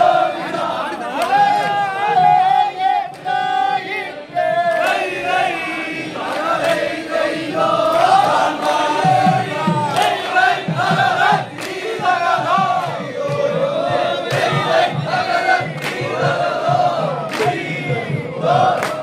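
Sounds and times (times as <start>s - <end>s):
group of men singing: 0.0s - 19.0s.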